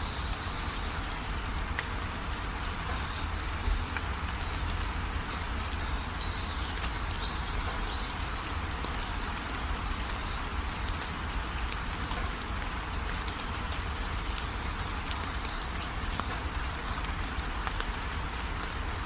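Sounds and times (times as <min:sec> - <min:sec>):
rain pattering: 0:00.0 - 0:19.0
small birds chirping: 0:00.0 - 0:19.0.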